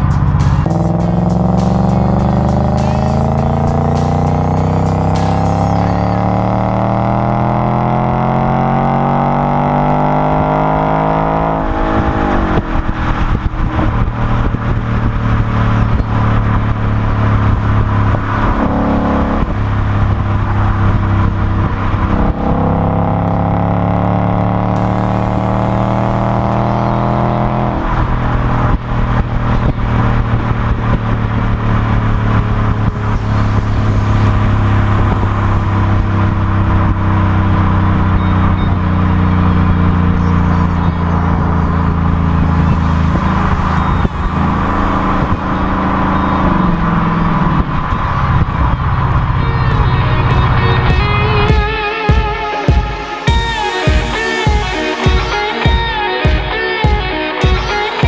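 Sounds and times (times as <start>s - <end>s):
car engine accelerating with upshifts: 0.0s - 58.0s.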